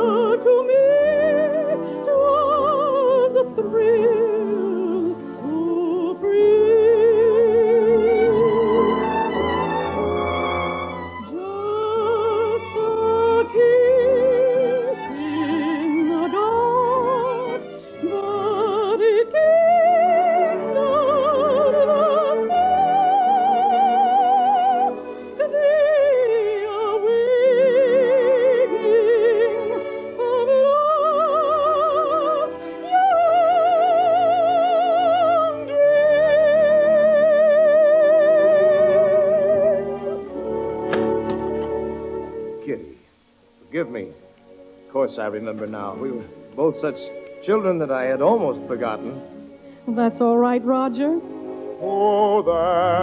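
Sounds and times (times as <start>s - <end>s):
orchestral accompaniment: 0.0s - 53.0s
soprano singing: 0.0s - 53.0s.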